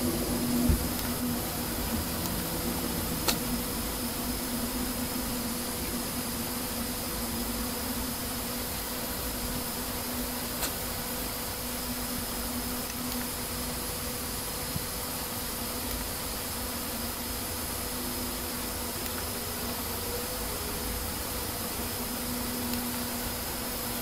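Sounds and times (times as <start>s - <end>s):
background hiss: 0.0s - 24.0s
low hum: 0.0s - 24.0s.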